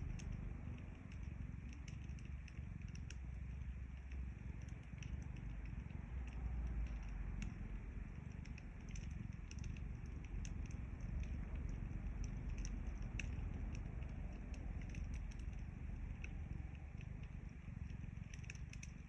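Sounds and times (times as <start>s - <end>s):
cat purring: 0.0s - 19.0s
wood fire crackling: 0.0s - 19.0s.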